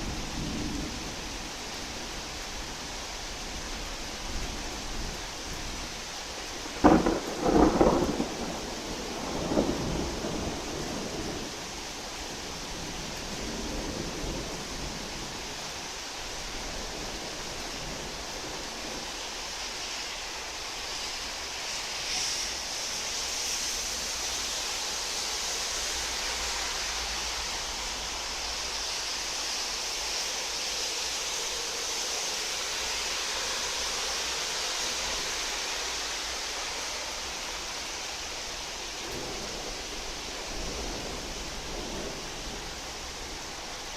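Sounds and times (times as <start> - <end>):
rain falling steadily: 0.0 - 43.9.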